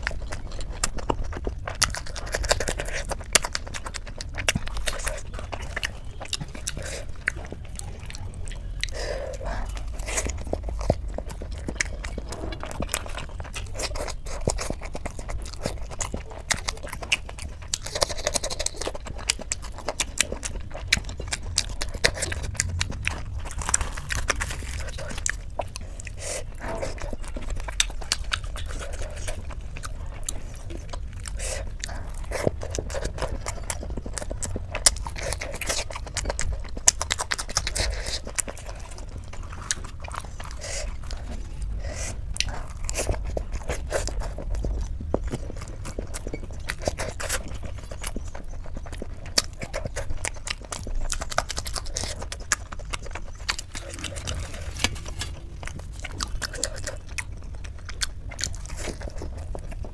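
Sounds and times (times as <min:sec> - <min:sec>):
lip and mouth clicks: 0:00.0 - 0:59.9
wet squishy chewing: 0:00.0 - 0:59.9.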